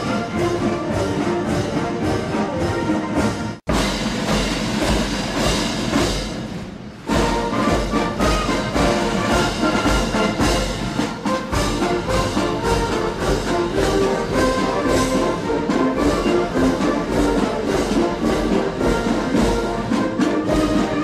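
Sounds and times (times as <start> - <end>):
orchestral march with brass: 0.0 - 21.0.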